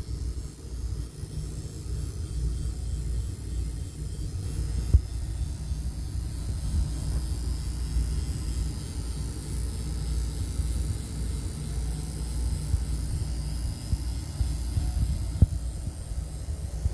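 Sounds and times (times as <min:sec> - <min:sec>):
electrical panel humming: 0:00.0 - 0:16.9.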